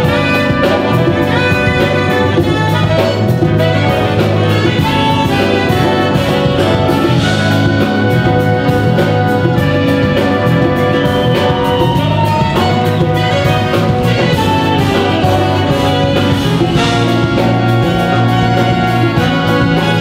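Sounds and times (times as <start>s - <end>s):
big band playing: 0.0s - 20.0s
drum and cymbal beat: 0.0s - 20.0s.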